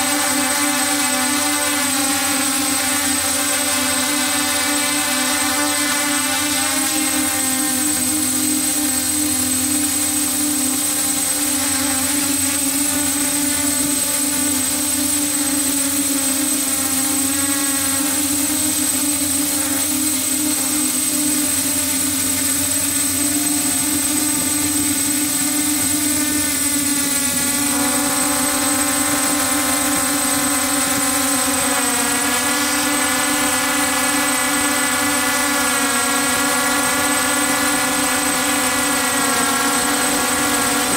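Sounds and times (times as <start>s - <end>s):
drone motors and propellers: 0.0s - 40.9s
thin high whine: 0.0s - 40.9s.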